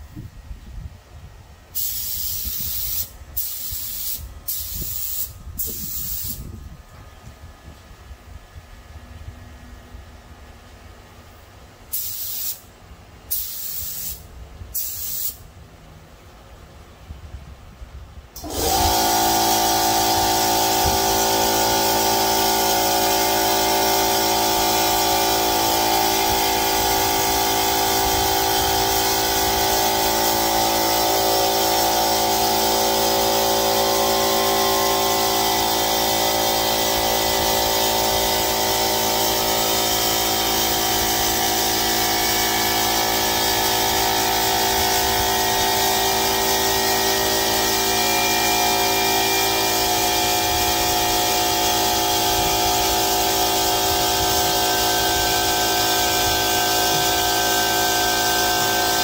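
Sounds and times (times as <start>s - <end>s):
air compressor motor hum: 1.7s - 9.4s, 11.8s - 15.5s, 18.2s - 59.0s
spray gun hissing: 1.8s - 6.5s, 11.9s - 12.7s, 13.3s - 15.4s, 18.4s - 59.0s.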